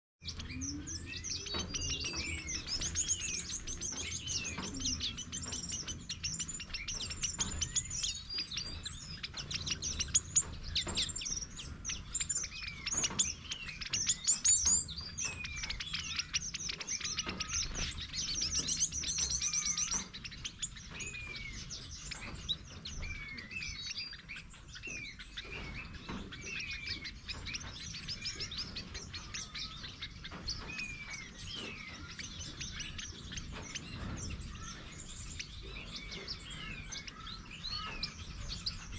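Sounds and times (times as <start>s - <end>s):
finches chirping and calling: 0.2s - 38.9s.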